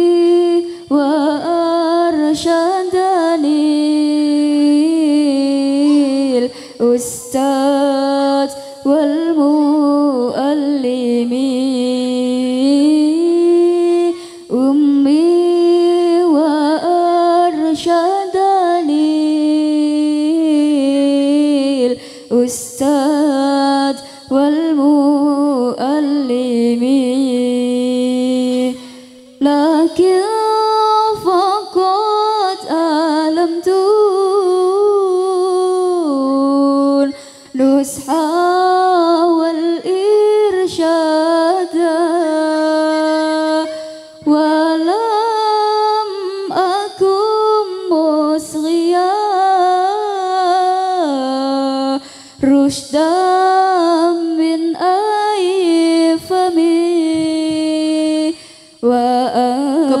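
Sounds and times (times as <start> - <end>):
woman singing with vibrato: 0.0 - 60.0.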